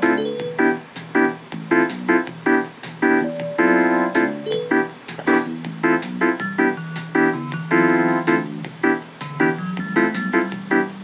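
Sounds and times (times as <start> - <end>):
electronic keyboard chord stabs: 0.0 - 11.0.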